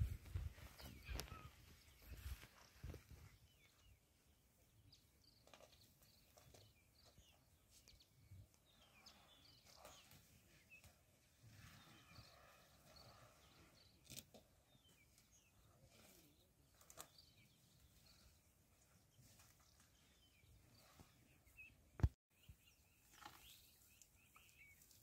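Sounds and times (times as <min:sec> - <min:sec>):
small bird calls and chirps: 0:00.1 - 0:25.0.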